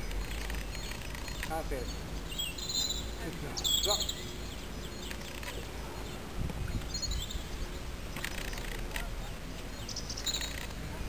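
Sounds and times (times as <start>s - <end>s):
high bird chirps: 0.0s - 10.8s
low steady rumble: 0.0s - 11.0s.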